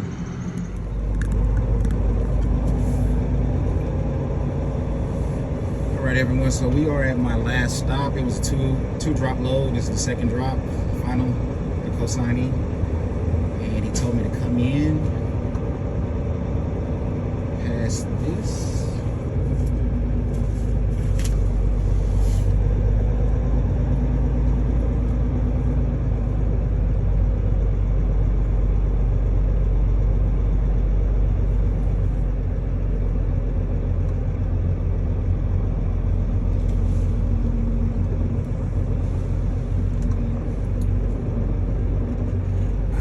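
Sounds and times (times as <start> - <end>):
truck diesel engine droning: 0.0 - 43.0.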